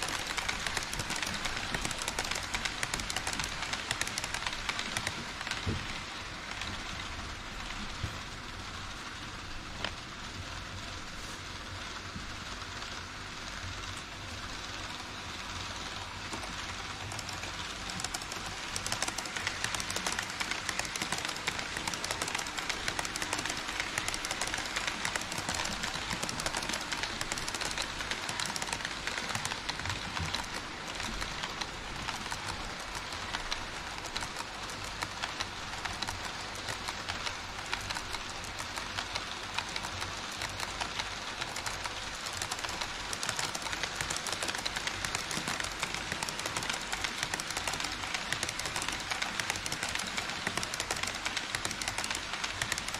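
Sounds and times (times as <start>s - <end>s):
model train wheels clattering: 0.0s - 52.9s.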